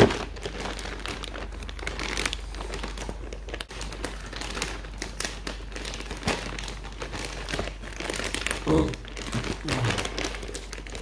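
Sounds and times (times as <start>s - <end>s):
plastic mailer bag crinkling: 0.0s - 11.0s.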